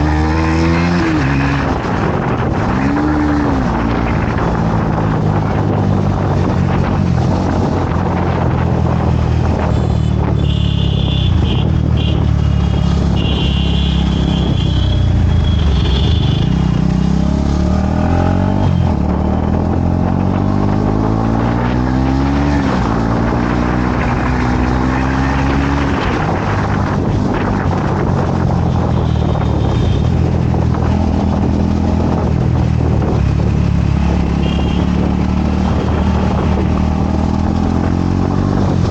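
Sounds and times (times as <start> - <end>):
motorcycle engine accelerating: 0.0 - 10.4, 11.3 - 38.9
road noise: 0.0 - 38.9.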